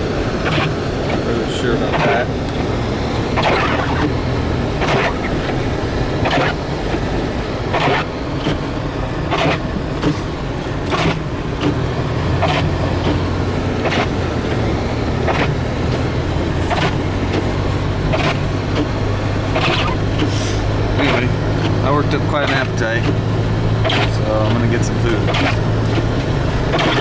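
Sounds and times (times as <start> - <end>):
car engine and road drone: 0.0 - 27.0.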